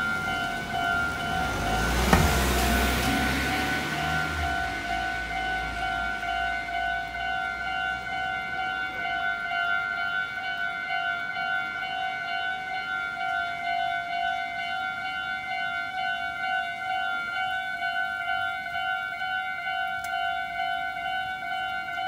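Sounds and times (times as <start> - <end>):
railroad crossing warning bell: 0.0 - 22.0.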